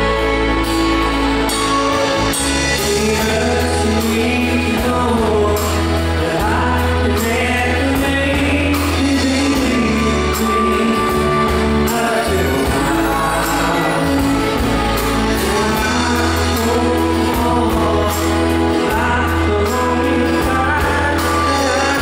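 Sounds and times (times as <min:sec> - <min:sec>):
live pop-rock band: 0:00.0 - 0:22.0
man singing: 0:00.0 - 0:22.0.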